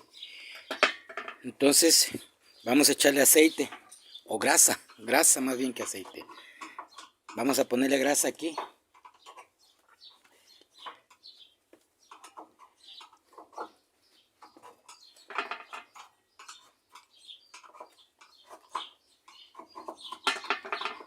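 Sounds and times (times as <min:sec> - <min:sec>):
chickens clucking: 0:01.9 - 0:21.0.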